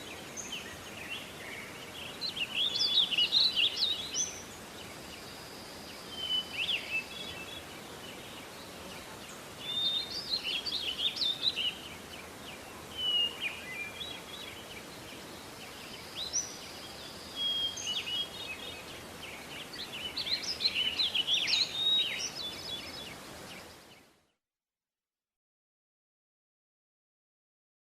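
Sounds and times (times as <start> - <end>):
songbirds singing and chirping: 0.0 - 24.3
outdoor background hiss: 0.0 - 24.4.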